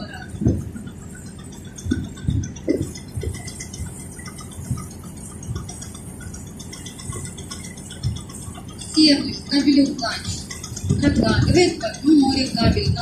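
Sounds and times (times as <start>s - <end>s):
boat engine rumble: 0.0s - 13.0s
knocks and rattling: 0.0s - 13.0s.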